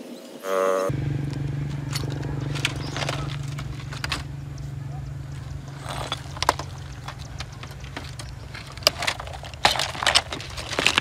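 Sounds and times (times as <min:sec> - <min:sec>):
steady low hum: 0:00.9 - 0:11.0.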